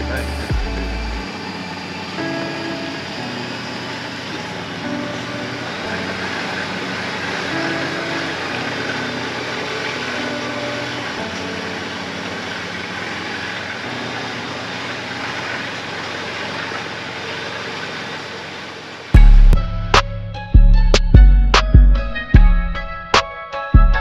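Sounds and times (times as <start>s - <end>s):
ferry engines droning: 0.0s - 24.0s.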